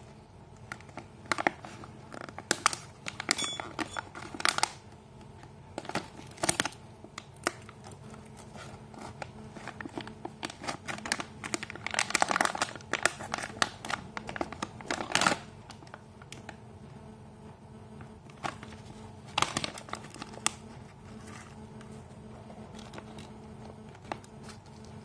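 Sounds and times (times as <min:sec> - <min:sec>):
plastic pouch crinkling: 0:00.5 - 0:16.6, 0:18.0 - 0:25.0.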